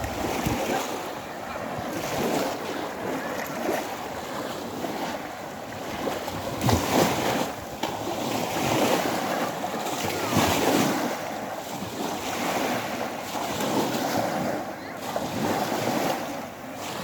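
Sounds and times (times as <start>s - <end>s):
wind buffeting microphone: 0.0s - 16.2s
sea waves washing onto shore: 0.0s - 17.0s.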